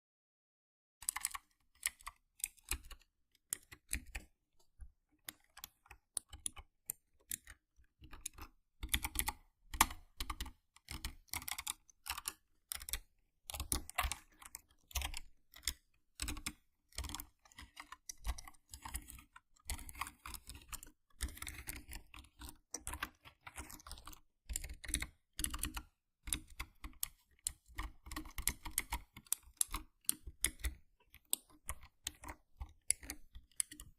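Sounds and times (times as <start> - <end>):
mechanical keyboard typing clicks: 1.0 - 4.3, 5.3 - 33.9.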